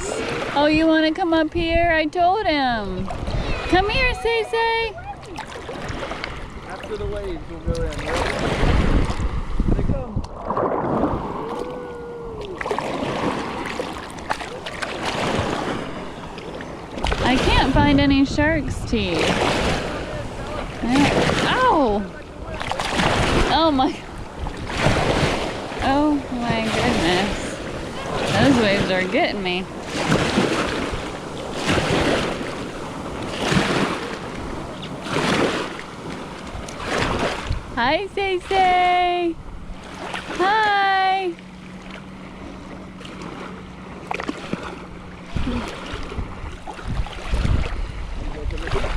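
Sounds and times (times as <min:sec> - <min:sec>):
wind on microphone: 0:00.0 - 0:40.4, 0:44.6 - 0:48.9
small waves splashing: 0:00.0 - 0:48.9.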